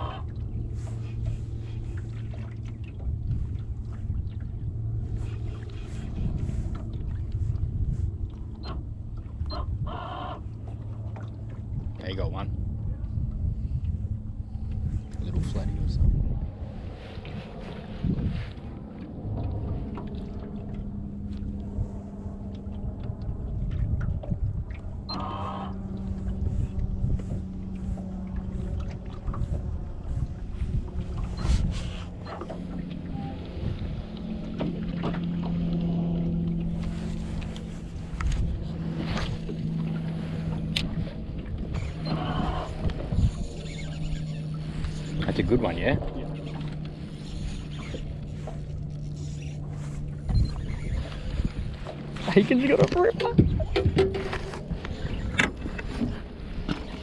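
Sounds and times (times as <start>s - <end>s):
low rumble: 0.0s - 57.0s
steady low hum: 0.0s - 57.0s
water lapping at boat hull: 0.0s - 57.0s
wind on microphone: 0.0s - 57.0s.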